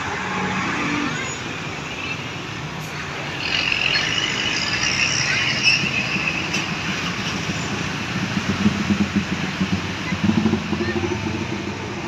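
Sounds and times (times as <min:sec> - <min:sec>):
bus passing by: 0:00.0 - 0:12.0.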